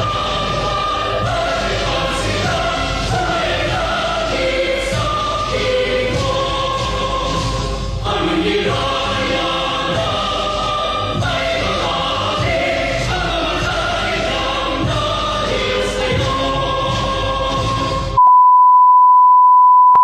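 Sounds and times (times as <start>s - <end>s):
choir singing long chords: 0.0s - 18.2s.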